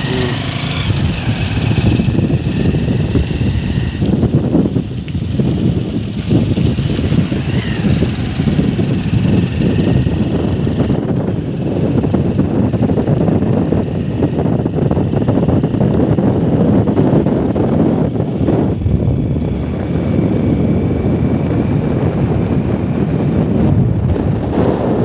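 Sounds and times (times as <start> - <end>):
motorbike engine running: 0.0 - 25.0
wind rush on microphone: 0.0 - 25.0.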